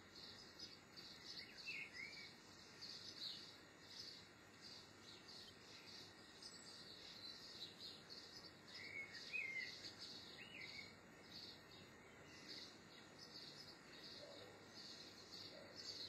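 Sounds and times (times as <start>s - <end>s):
whistled bird notes: 0.0s - 16.0s
high bird chirp: 0.1s - 16.0s.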